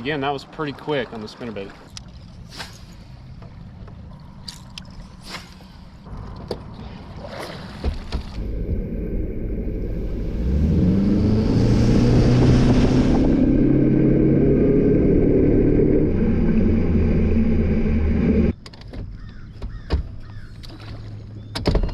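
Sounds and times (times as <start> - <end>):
outboard motor rumbling: 0.0 - 18.6.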